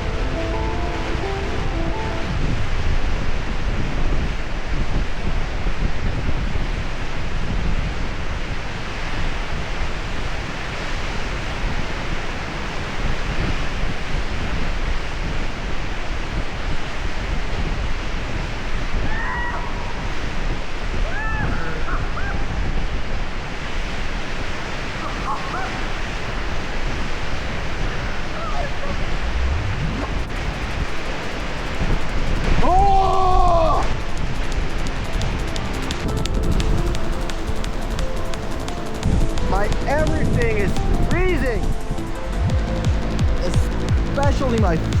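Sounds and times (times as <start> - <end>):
waterfall rushing: 0.0 - 7.4, 8.0 - 45.0
wind on microphone: 0.0 - 45.0.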